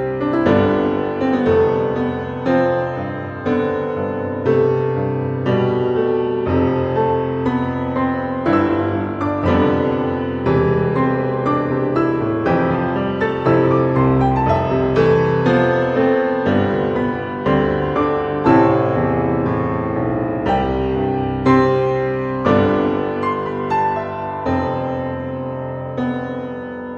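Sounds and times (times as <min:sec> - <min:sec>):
piano melody: 0:00.0 - 0:26.9.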